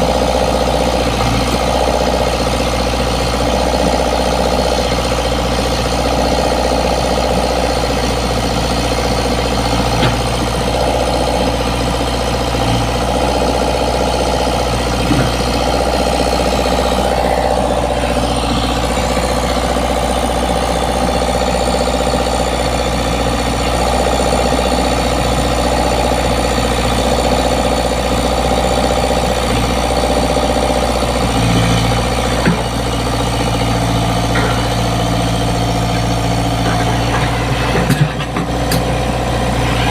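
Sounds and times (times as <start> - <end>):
excavator diesel engine idling: 0.0 - 39.9.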